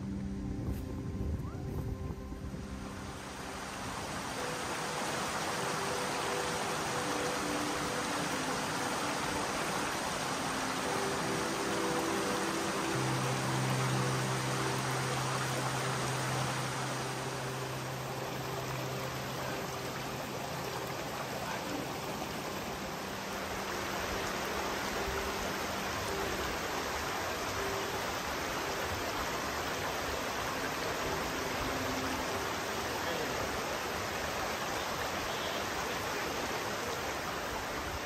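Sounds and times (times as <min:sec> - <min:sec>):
rushing water: 0:00.0 - 0:38.0.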